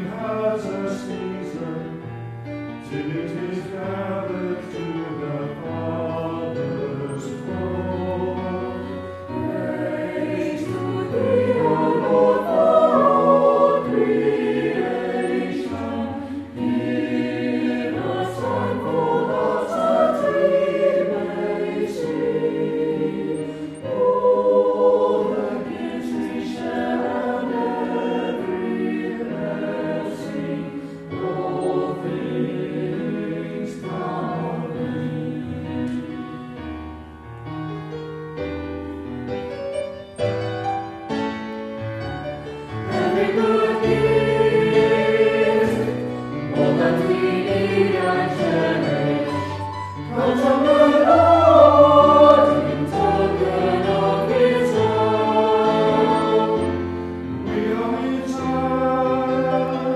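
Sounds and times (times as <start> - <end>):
choir singing: 0.0 - 37.2, 41.1 - 59.9.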